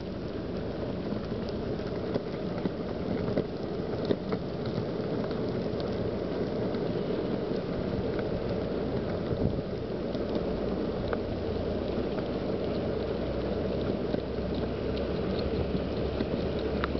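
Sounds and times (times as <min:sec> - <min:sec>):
faint ticks: 0:00.0 - 0:16.9
wheels rolling on asphalt: 0:00.0 - 0:16.9.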